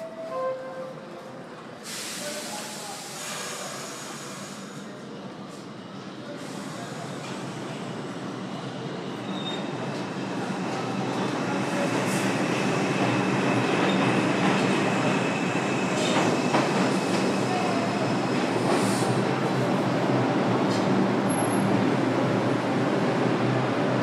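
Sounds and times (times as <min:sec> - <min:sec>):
subway train rumble in tunnel: 0:00.0 - 0:24.0.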